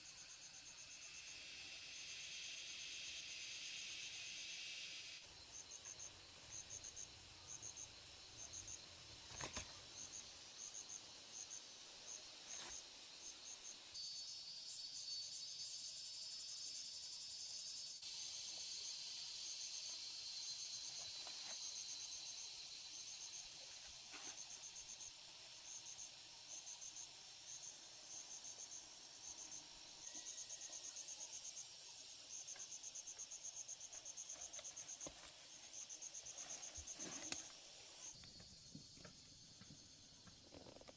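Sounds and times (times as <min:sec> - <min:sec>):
insects chirping in pulses: 0:00.0 - 0:40.9.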